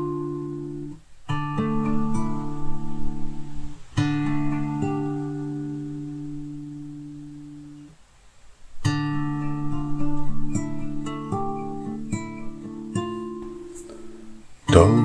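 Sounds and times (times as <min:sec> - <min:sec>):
classical guitar chords: 0:00.0 - 0:15.0.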